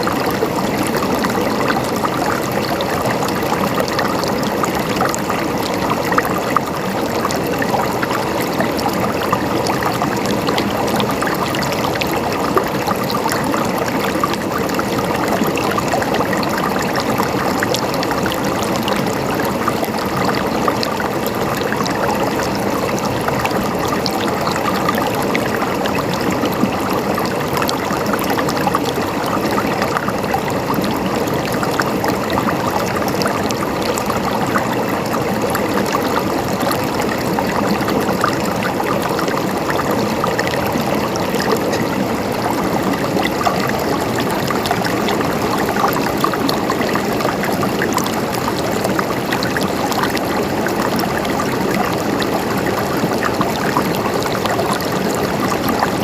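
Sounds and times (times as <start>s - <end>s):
water gurgling and splashing: 0.0s - 56.0s.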